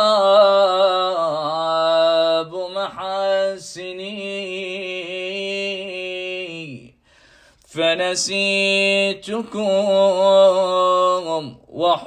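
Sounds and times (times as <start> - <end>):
man chanting: 0.0 - 6.9, 7.7 - 12.0.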